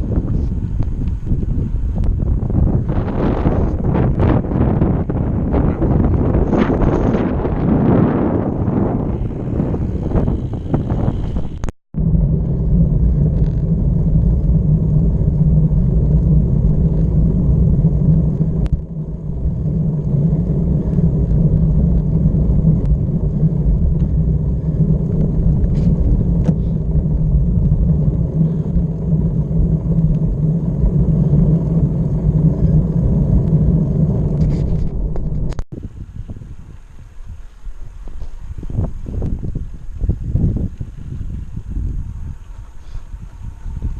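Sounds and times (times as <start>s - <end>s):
vehicle road rumble: 0.0s - 43.9s.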